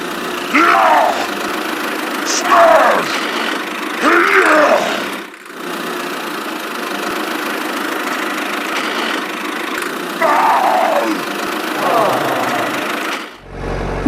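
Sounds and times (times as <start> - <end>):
small motor running: 0.0 - 14.0.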